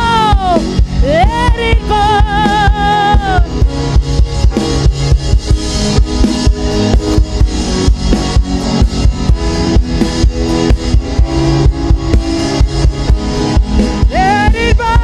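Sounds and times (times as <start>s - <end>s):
drum-kit beat: 0.0s - 15.0s.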